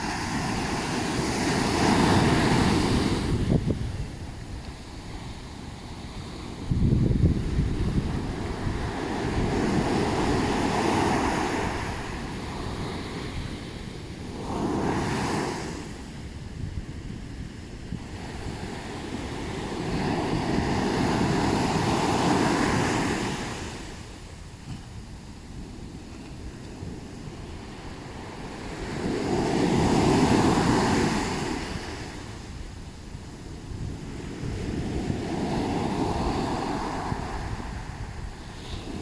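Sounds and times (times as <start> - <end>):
ocean waves washing up beach: 0.0 - 39.0.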